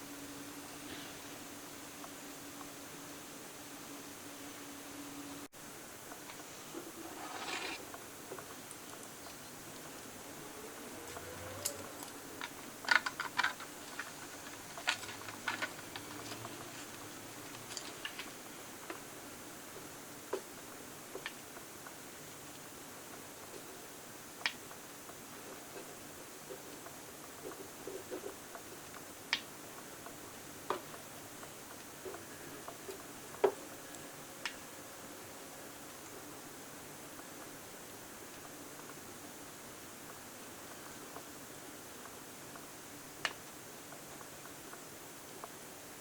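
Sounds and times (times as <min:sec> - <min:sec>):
faint steady hiss: 0:00.0 - 0:46.0
faint steady hum: 0:00.0 - 0:46.0.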